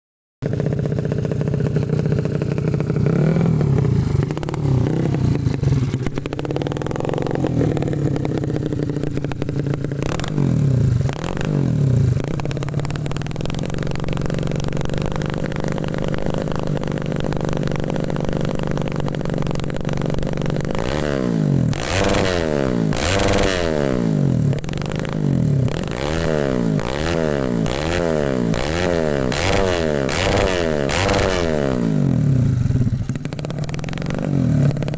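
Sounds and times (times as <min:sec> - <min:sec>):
dirt bike engine revving: 0:00.4 - 0:34.9.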